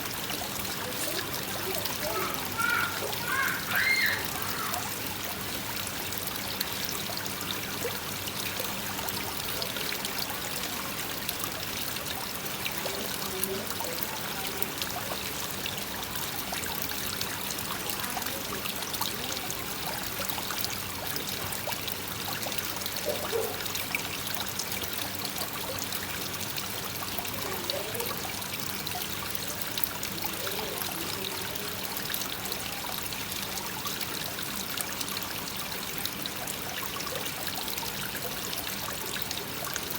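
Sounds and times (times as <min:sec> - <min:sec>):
rain falling on water: 0:00.0 - 0:39.9
waterfall pouring into pond: 0:00.0 - 0:39.9.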